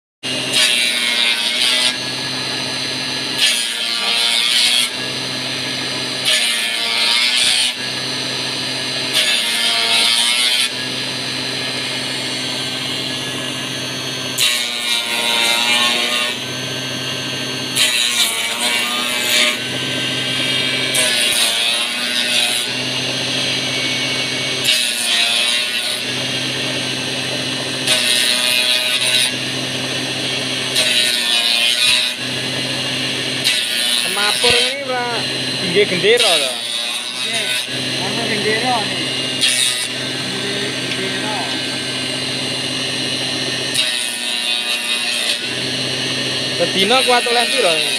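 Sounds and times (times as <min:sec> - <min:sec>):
high wood cutting noise: 0:00.2 - 0:47.9
wood-turning machine running: 0:00.2 - 0:47.9.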